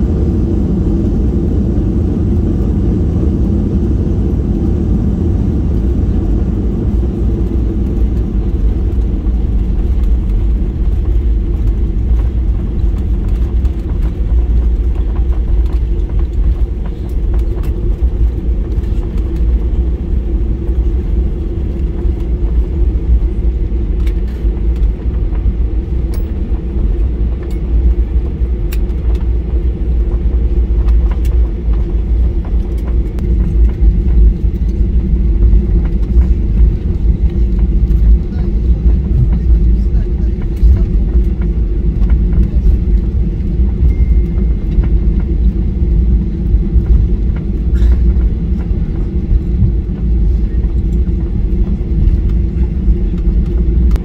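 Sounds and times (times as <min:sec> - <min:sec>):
airplane cabin low rumble: 0:00.0 - 0:54.0.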